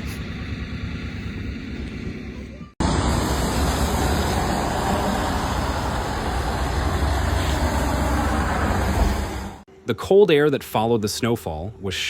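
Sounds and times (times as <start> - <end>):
vehicle road noise rumble: 0.0 - 9.7.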